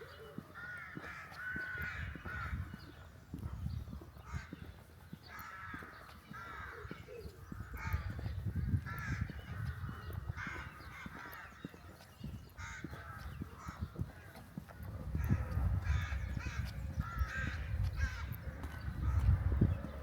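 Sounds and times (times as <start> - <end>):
crows cawing: 0.0 - 3.0, 4.1 - 19.8.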